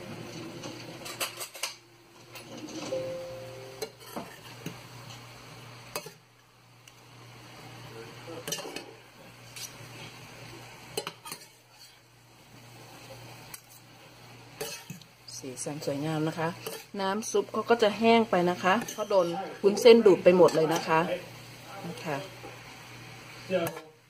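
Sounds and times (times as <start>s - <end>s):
food sizzling in a pan: 2.9s - 24.0s.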